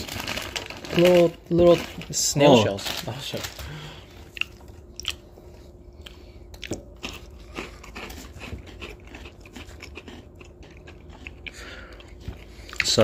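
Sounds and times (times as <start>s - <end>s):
biscuits crunching: 0.0s - 5.4s, 6.0s - 13.0s.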